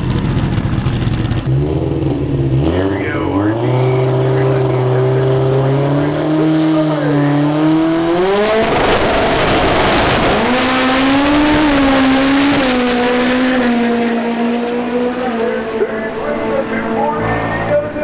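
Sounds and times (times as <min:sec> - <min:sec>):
drag car engine revving: 0:00.0 - 0:18.0.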